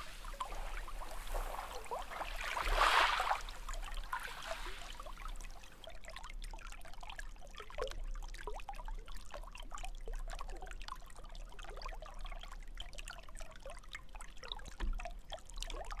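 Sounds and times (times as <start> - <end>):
water trickling and bubbling: 0.0 - 16.0.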